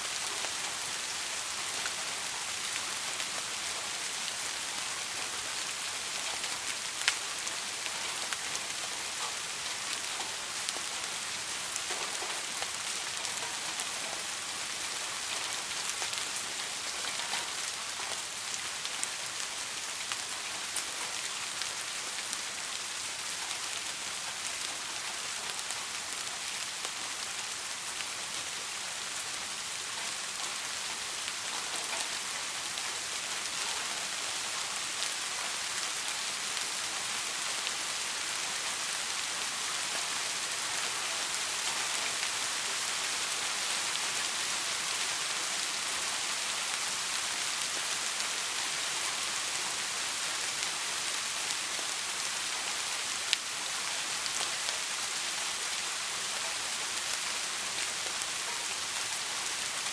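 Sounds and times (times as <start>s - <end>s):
soft rain hiss: 0.0s - 59.9s.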